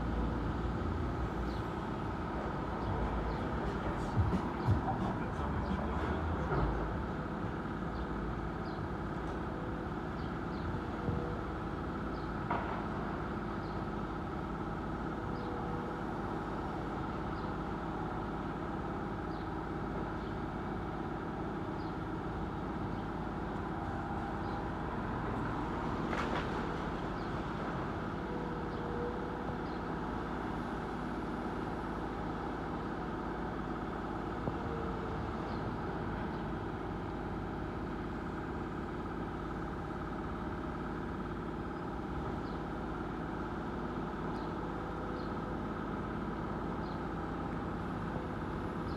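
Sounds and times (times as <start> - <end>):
engine running: 0.0 - 48.9.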